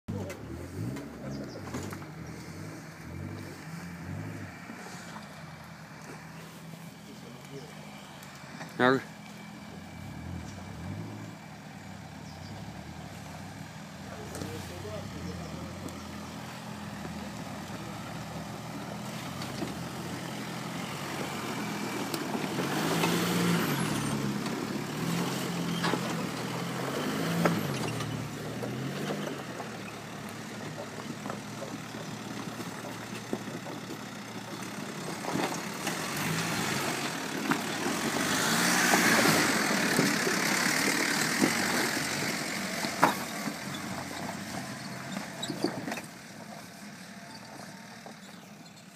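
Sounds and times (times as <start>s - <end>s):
off-road vehicle engines revving: 0.0s - 48.9s.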